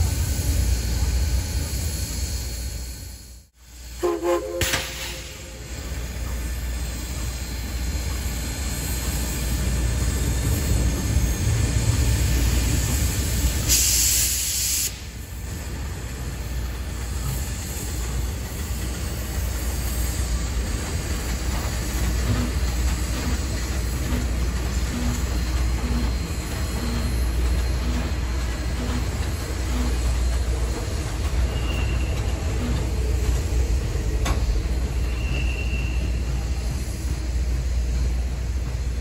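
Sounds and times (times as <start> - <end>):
sharp steam hiss: 0.0 - 32.8
steam train rumbling: 0.0 - 39.0.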